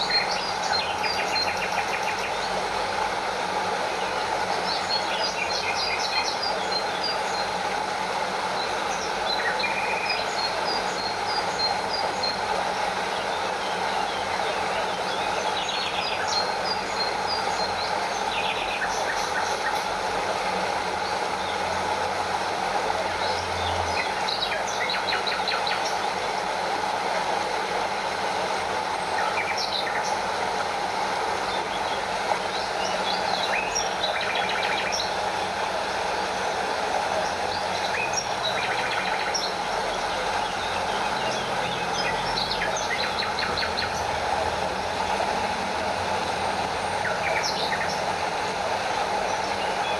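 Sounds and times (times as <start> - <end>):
water rushing over waterfall: 2.8 - 49.9.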